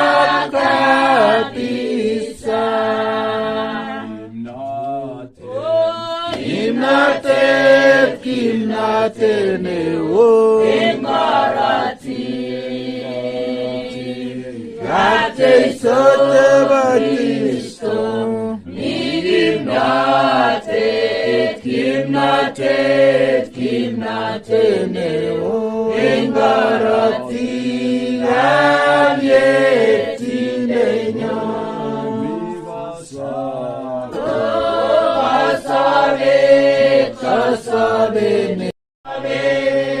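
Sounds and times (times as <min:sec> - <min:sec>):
choir singing gospel song: 0:00.0 - 0:40.0.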